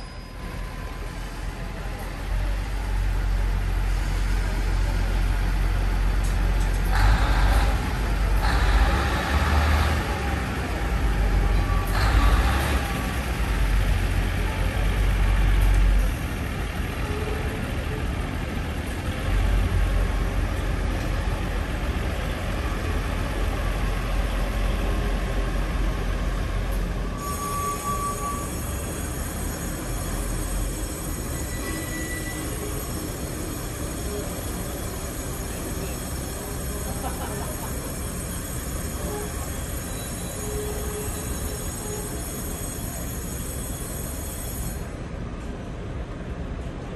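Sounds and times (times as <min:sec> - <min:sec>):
diesel railcar rumbling: 0:00.0 - 0:46.9.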